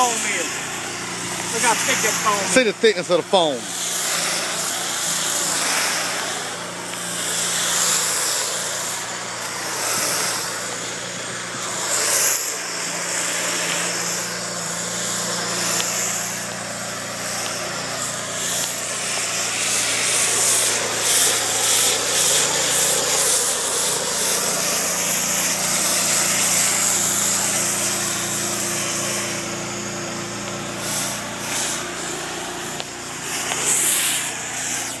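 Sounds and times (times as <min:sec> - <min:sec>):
machine humming: 0:00.0 - 0:35.0
rough hiss: 0:00.0 - 0:35.0.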